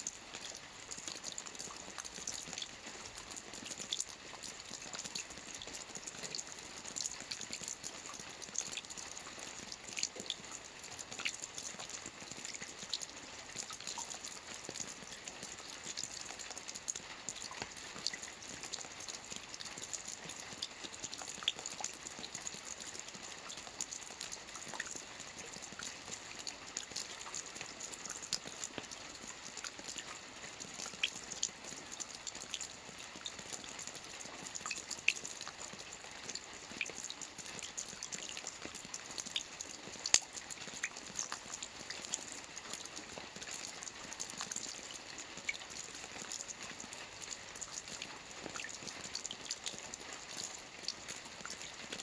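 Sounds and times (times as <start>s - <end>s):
soft rain on a roof: 0.0s - 52.0s.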